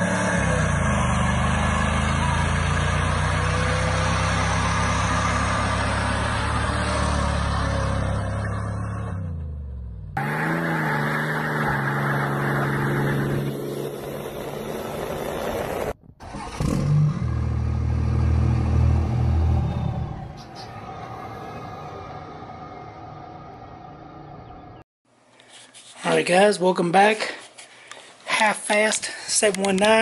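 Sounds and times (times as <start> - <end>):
truck engine revving high: 0.0 - 24.8
truck engine revving and driving: 0.0 - 24.9.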